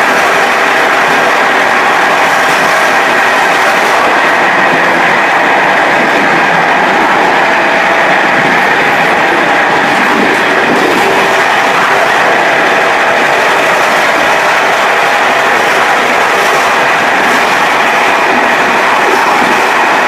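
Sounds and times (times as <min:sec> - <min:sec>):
train wheels rushing on rail: 0:00.0 - 0:20.0.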